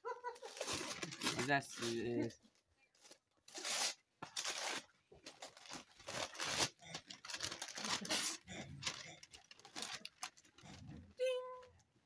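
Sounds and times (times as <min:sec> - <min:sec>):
paper crinkling: 0:00.3 - 0:02.4, 0:03.0 - 0:11.0
wrapping paper ripping: 0:00.4 - 0:02.2, 0:03.0 - 0:10.9.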